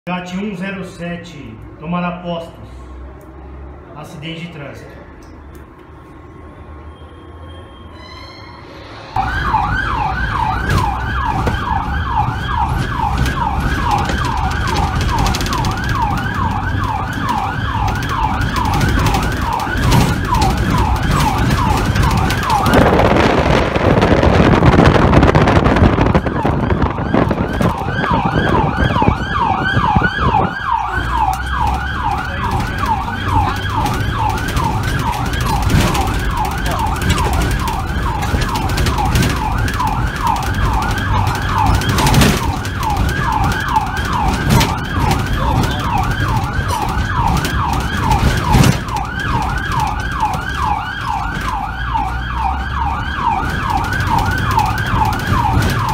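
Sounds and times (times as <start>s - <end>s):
electronic yelp siren: 7.1s - 55.9s
loud rushing noise: 7.8s - 55.9s.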